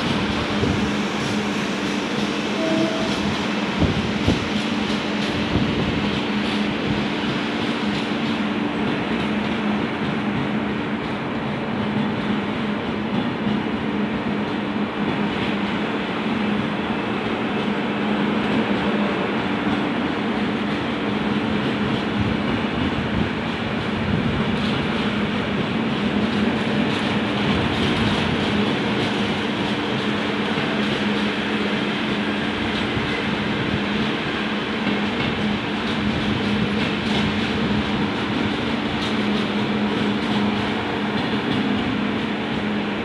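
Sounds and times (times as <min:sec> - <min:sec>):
train wheel-on-rail rumble: 0:00.0 - 0:43.0.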